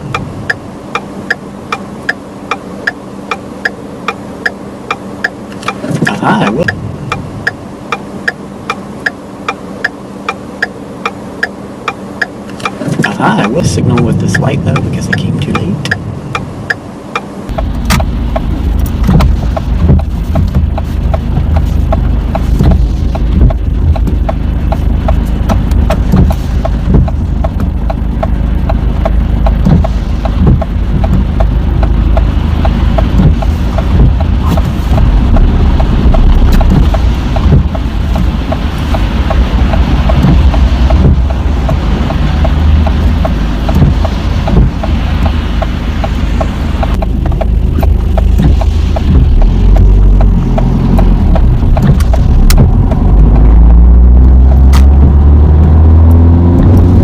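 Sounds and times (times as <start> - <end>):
rapid steady ticking: 0.0 - 56.3
car engine and road rumble: 0.0 - 57.0.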